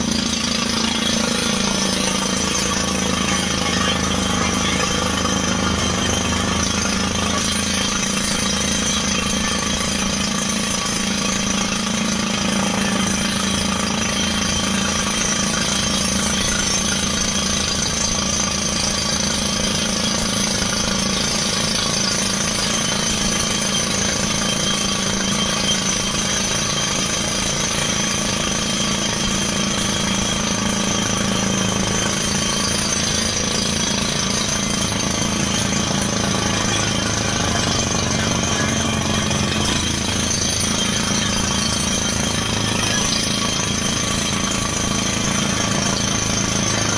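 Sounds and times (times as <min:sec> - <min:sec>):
drilling rig hammering: 0:00.0 - 0:46.9
engine and compressor drone: 0:00.0 - 0:46.9.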